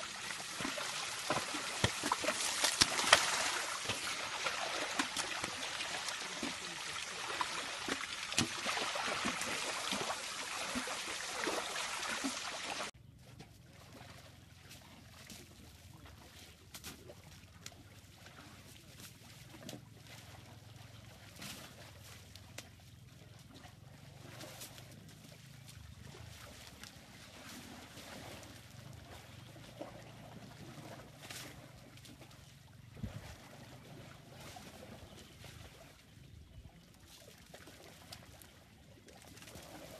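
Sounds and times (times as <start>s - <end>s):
mud and water sloshing: 0.0s - 39.9s.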